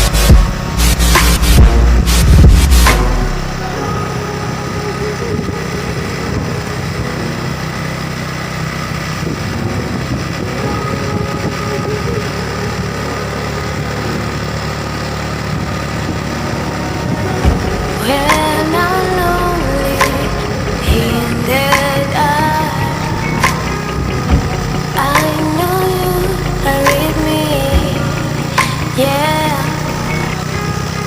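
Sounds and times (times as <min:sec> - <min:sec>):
small motorcycle engine running: 0:04.5 - 0:31.0.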